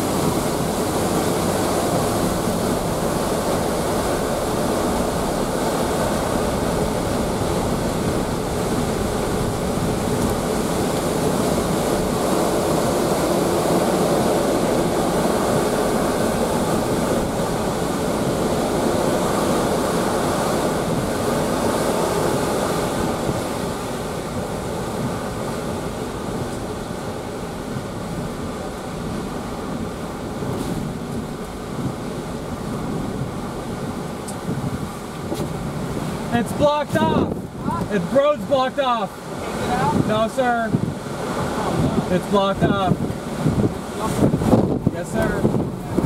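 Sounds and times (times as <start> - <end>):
wind and heavy rain on vehicle: 0.0 - 46.0.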